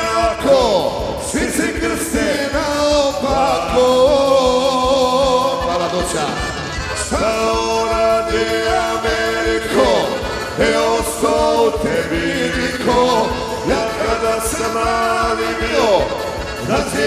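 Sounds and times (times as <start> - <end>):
steady drum beat: 0.0 - 17.0.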